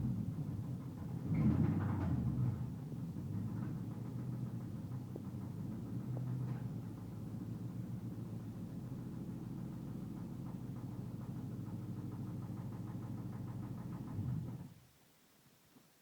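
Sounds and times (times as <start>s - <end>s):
car engine idling with knock: 0.0s - 14.8s.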